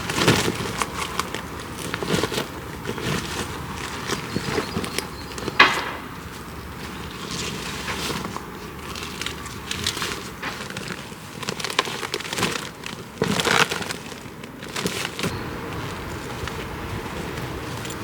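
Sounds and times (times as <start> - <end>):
rustling and crinkling: 0.0 - 18.0.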